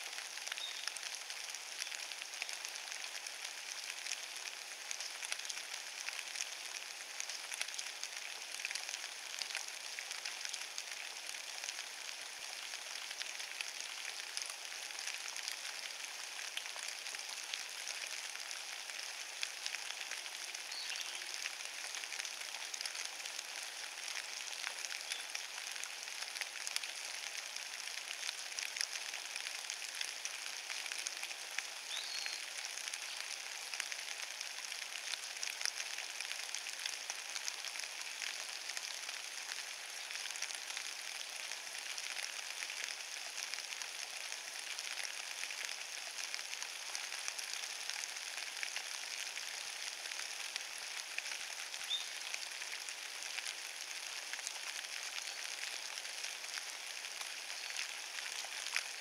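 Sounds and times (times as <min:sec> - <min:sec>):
rain pattering on wet leaves: 0:00.0 - 0:59.0.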